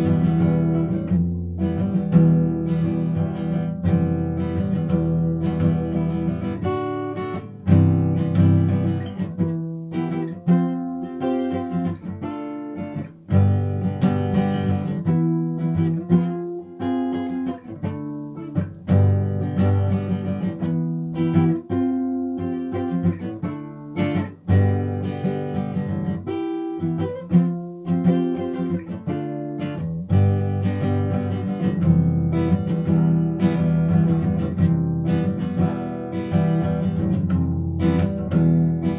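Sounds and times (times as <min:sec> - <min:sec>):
guitar plucked notes and chords: 0:00.0 - 0:38.9.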